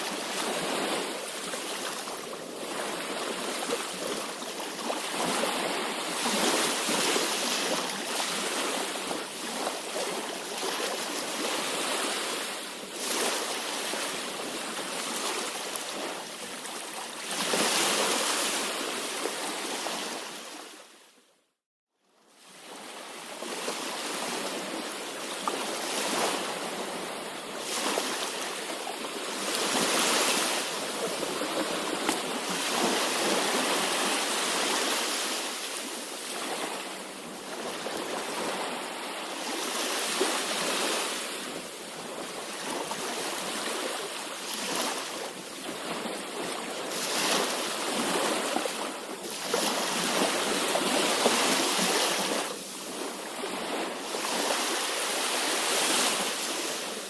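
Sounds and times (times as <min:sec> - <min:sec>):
sea waves washing ashore: 0:00.0 - 0:21.0, 0:22.4 - 0:57.0.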